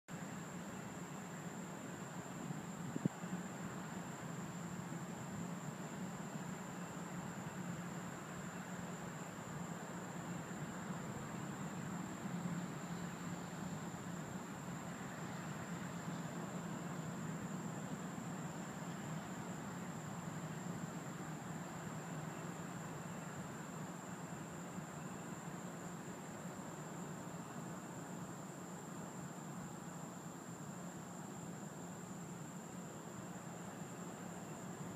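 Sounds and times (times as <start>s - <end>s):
high-pitched insect trill: 0.1s - 34.9s
low steady hum and hiss: 0.1s - 34.9s.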